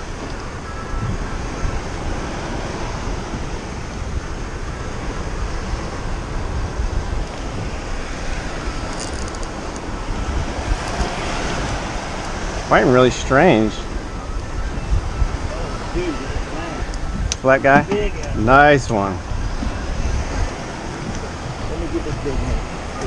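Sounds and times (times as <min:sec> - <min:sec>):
water rushing: 0:00.0 - 0:23.0
wind rushing: 0:00.0 - 0:23.0.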